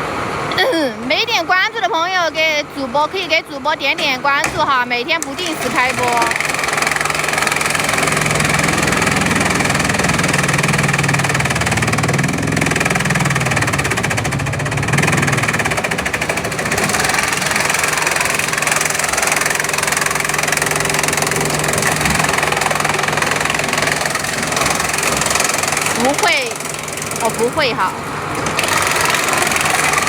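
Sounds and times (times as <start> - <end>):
low machine hum: 0.0 - 30.0
bamboo crushing machinery: 3.9 - 30.0.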